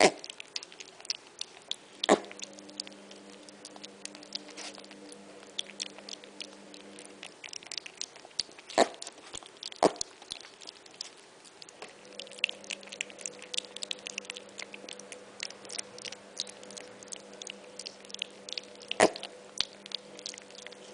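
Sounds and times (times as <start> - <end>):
piglet chewing and crunching food: 0.0 - 20.9.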